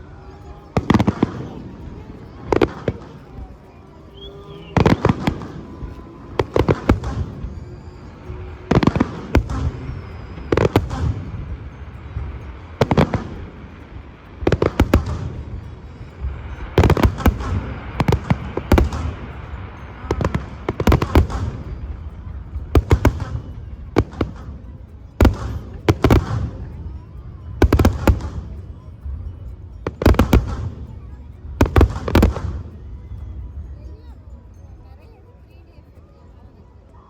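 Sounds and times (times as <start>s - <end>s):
fireworks bangs and crackles: 0.2s - 33.9s.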